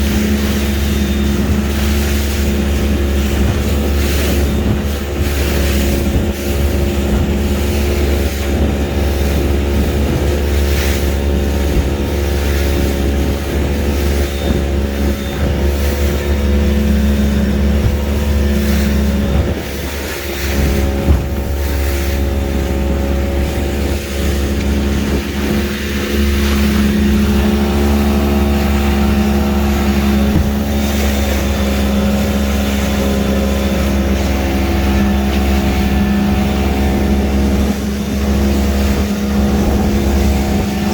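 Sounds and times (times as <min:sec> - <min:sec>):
motorboat engine running: 0:00.0 - 0:40.9.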